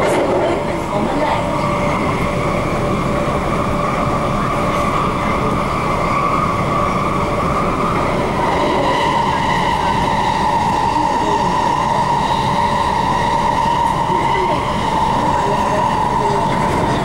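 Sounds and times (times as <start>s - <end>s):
electric train whine: 0.0s - 17.0s
train wheels rumbling on rail: 0.0s - 17.0s.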